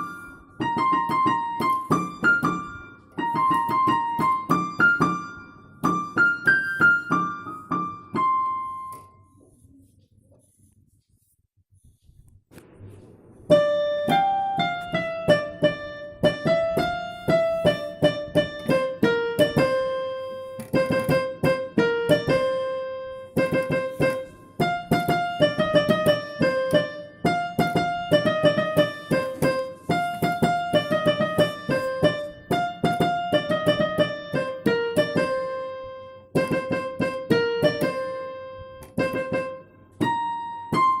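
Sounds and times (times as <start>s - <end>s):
piano melody: 0.0s - 9.7s, 13.2s - 41.0s.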